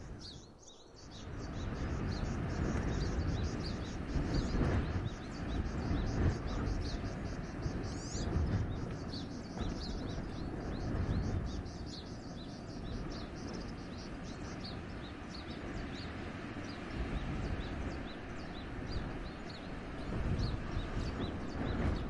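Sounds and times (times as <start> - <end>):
small birds twittering: 0.0 - 22.0
wind gusting through forest: 0.0 - 22.0.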